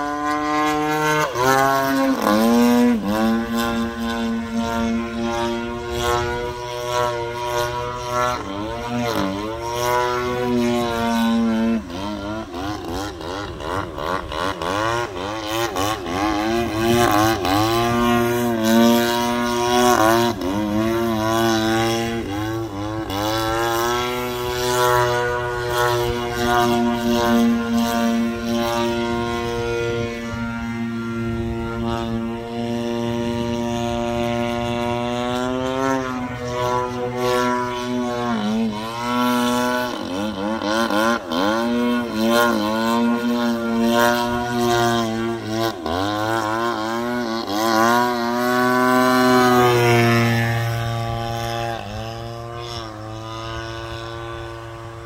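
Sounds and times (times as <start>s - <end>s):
model plane engine: 0.0s - 55.0s.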